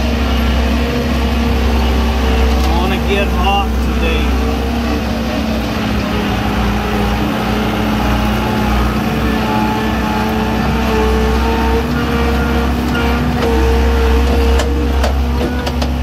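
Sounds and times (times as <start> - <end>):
skid steer engine rumble: 0.0 - 16.0
steady whine: 0.0 - 16.0.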